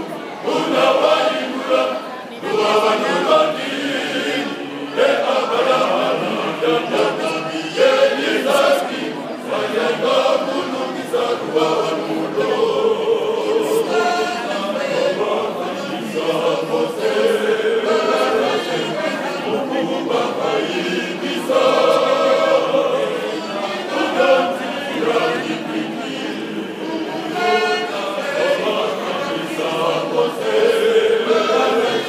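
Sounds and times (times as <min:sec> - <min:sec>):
men's choir singing: 0:00.0 - 0:32.0.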